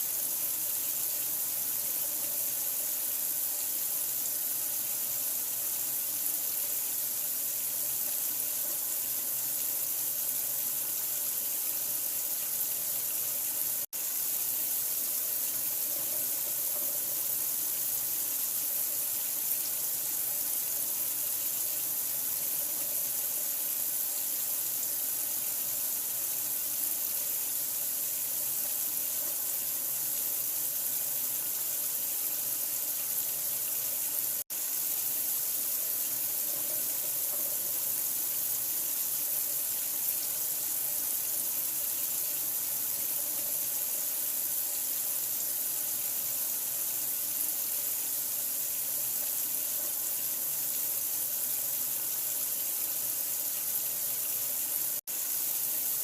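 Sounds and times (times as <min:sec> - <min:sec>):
water running from tap: 0:00.0 - 0:56.0.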